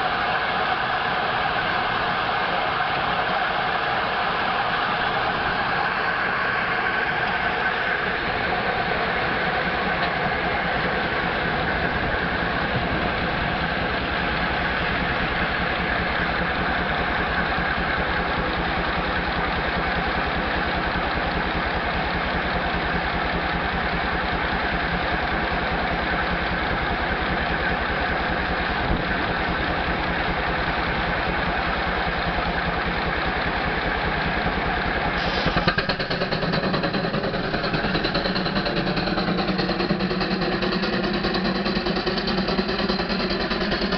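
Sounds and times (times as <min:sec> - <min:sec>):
steam engine running: 0:00.0 - 0:43.9
steady mechanical din: 0:02.9 - 0:43.9.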